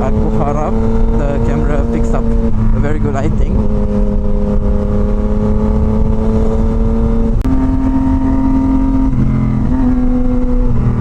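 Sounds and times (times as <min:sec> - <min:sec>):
motorcycle engine and exhaust: 0:00.0 - 0:11.0.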